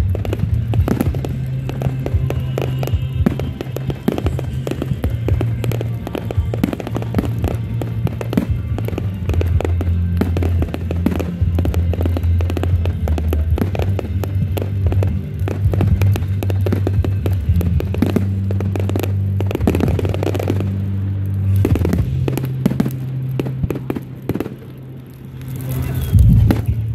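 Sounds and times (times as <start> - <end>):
fireworks popping and banging: 0.0 - 26.9
music with deep bass line: 0.0 - 26.9.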